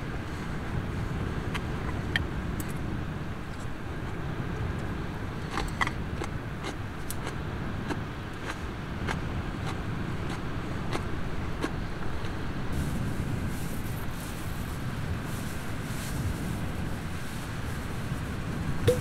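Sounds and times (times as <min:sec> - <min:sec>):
low rumble of wind: 0:00.0 - 0:19.0.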